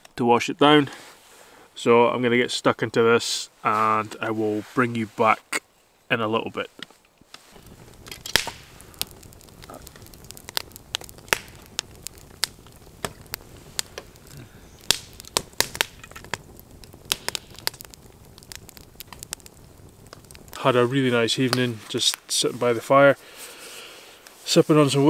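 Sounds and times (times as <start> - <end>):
low steady hiss: 0.0 - 25.0
campfire crackling and popping: 3.6 - 25.0.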